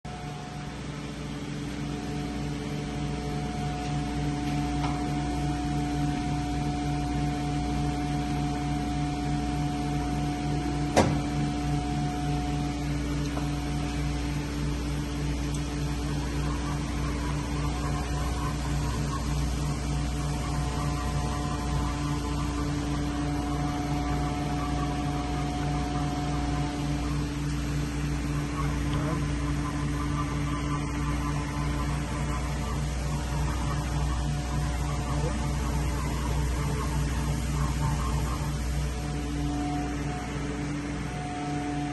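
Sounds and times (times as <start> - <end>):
machine spindle hum and whine: 0.0 - 41.9.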